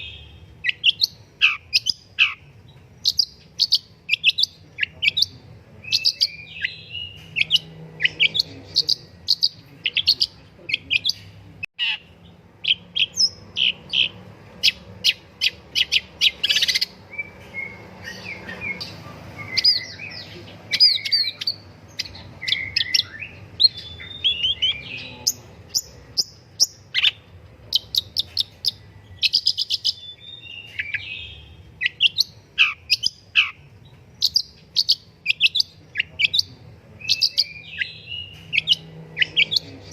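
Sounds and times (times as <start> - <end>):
bird singing sharp chirps: 5.9 - 39.9.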